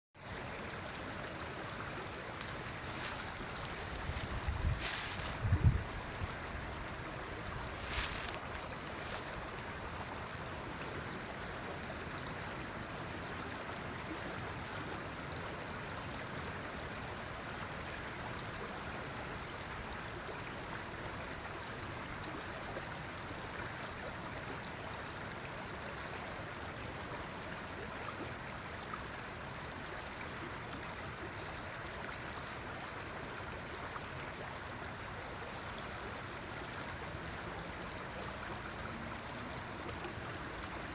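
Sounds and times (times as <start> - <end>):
river flowing: 0.2 - 40.9.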